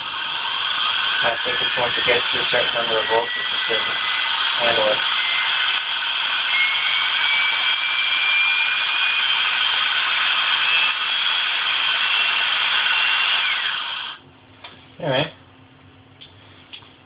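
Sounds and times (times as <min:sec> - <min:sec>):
drill motor whining: 0:00.0 - 0:14.2.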